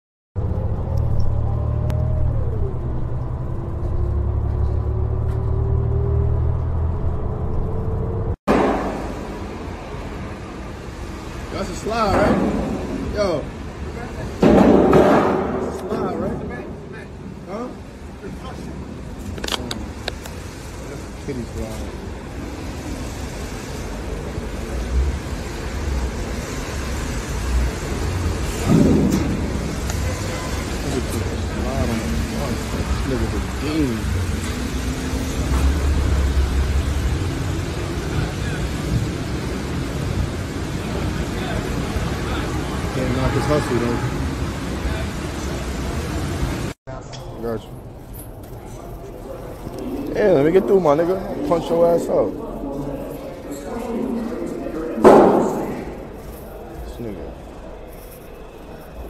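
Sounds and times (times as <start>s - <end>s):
bus low rumble: 0.4s - 14.4s, 15.6s - 46.8s, 47.4s - 59.0s
loud rush of noise: 0.4s - 46.8s, 47.8s - 59.0s
street traffic: 0.4s - 59.0s.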